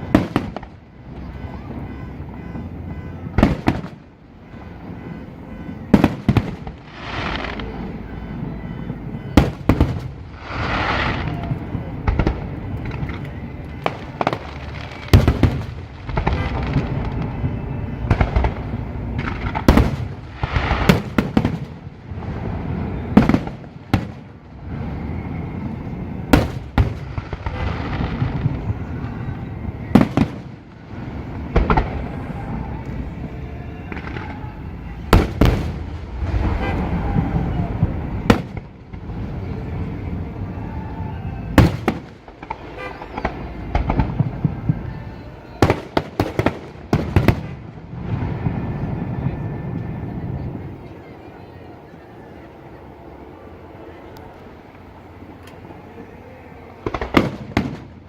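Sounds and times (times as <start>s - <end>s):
rushing crackling fireworks: 0.0s - 58.0s.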